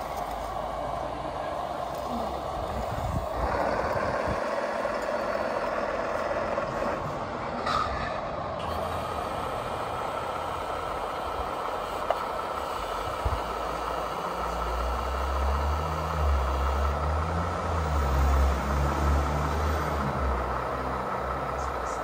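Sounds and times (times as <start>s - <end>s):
simulated diesel engine rumble: 0.0s - 22.0s
steady mechanical whine: 0.0s - 22.0s.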